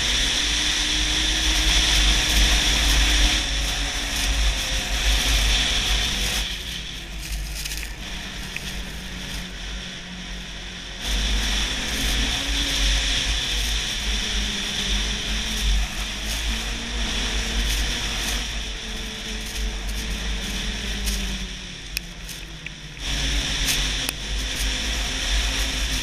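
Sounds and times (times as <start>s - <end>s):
snowmobile engine running: 0.0s - 26.0s
wind rumble on microphone: 0.0s - 26.0s.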